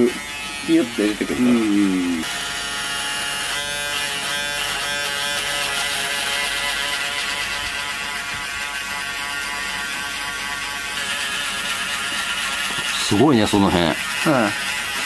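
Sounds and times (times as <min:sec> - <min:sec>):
electric shaver buzzing: 0:00.0 - 0:15.0.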